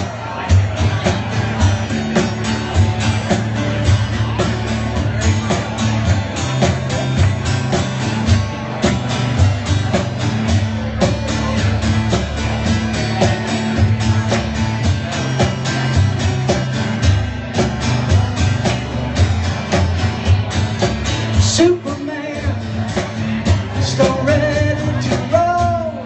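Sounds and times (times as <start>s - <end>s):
bass guitar: 0.0s - 26.0s
steady drum beat: 0.0s - 26.0s.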